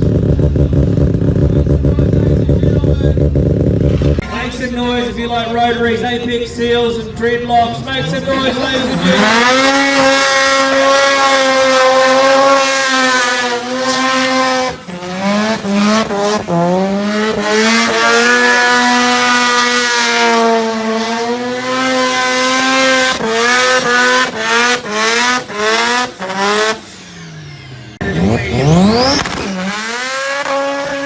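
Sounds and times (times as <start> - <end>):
rotary engine revving: 0.0 - 4.2, 7.8 - 31.0.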